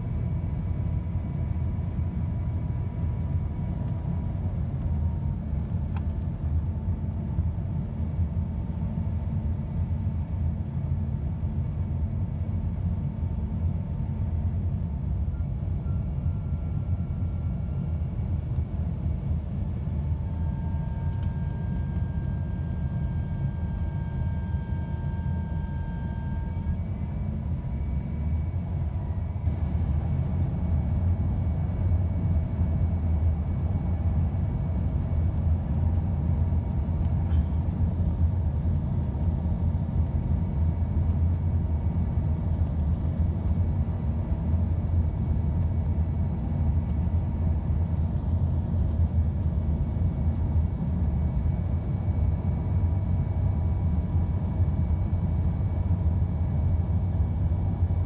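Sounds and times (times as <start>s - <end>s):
faint steady whine: 0.0s - 58.0s
jet cabin rumble: 0.0s - 58.0s.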